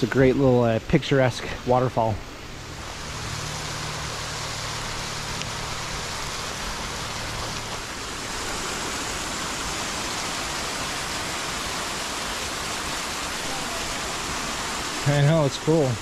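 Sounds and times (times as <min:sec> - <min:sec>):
waterfall and creek rushing: 0:00.0 - 0:16.0.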